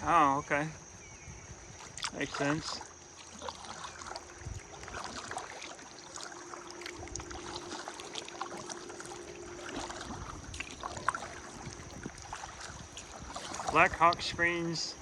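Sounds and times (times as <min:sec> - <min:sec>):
faint steady hum: 0:00.0 - 0:15.0
paddle splashing in water: 0:01.7 - 0:15.0
water trickling and dripping: 0:01.7 - 0:15.0.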